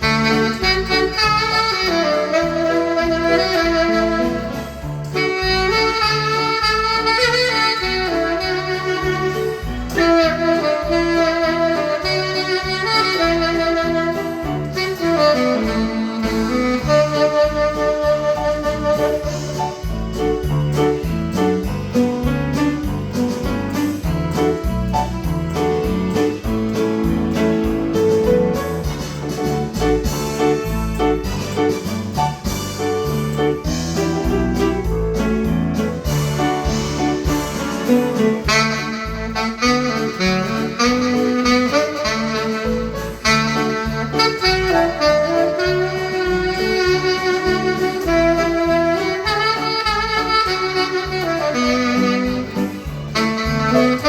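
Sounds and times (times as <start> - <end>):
tenor saxophone slow melody: 0.0 - 35.2, 36.0 - 54.0
piano accompaniment: 0.0 - 54.0.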